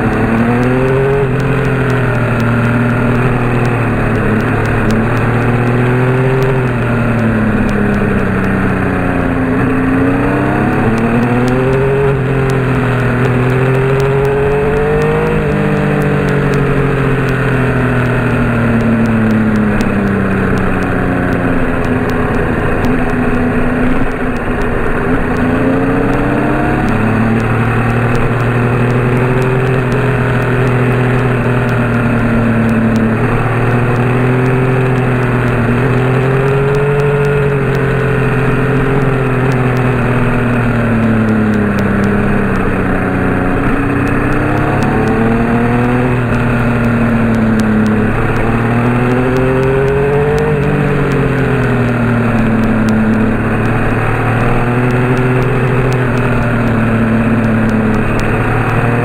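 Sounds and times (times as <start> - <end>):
vehicle engine speeding up and slowing: 0.0 - 59.0.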